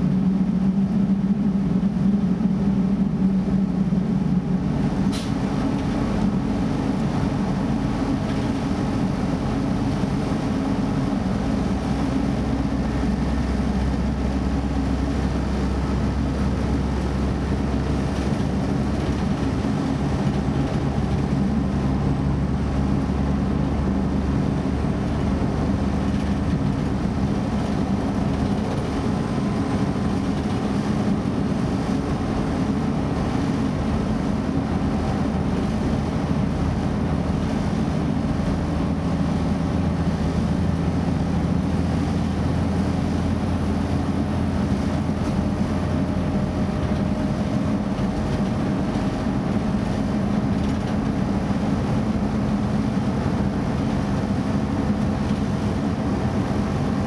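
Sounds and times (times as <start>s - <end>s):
train diesel engine drone: 0.0s - 57.0s.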